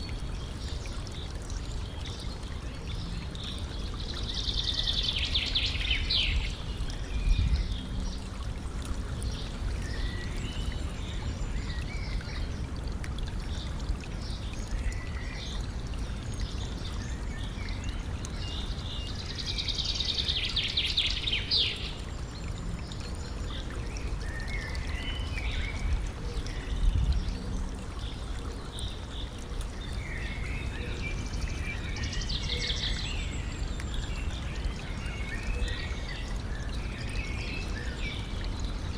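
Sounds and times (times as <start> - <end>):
stream flowing and trickling: 0.0 - 38.9.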